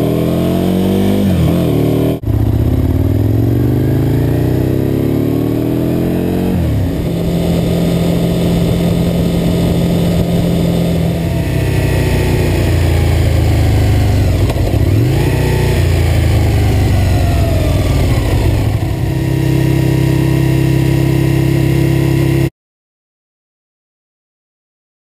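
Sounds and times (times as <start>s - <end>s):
motorcycle engine revving: 0.0s - 22.5s.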